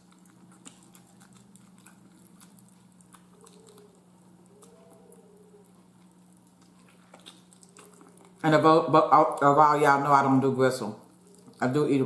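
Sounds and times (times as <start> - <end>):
person chewing meat: 0.0 - 9.8, 11.0 - 12.0.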